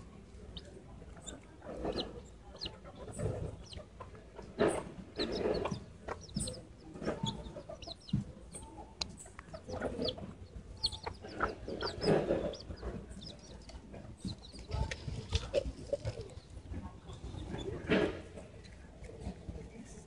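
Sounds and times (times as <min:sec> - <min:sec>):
chickens clucking: 0:00.0 - 0:19.6.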